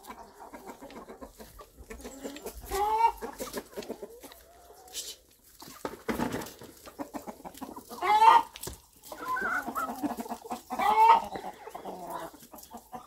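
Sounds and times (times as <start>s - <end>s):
loud chicken calls: 0.0s - 5.2s, 6.2s - 13.0s
chickens clucking: 0.0s - 13.0s.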